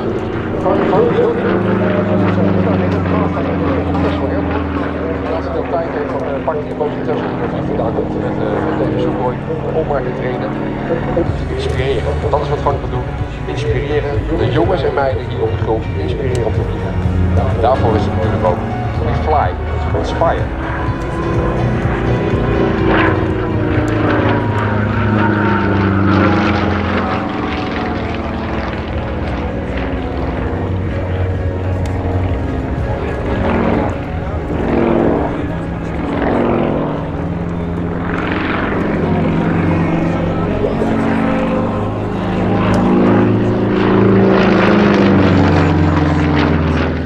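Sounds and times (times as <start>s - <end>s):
propeller plane engine droning: 0.0s - 47.0s.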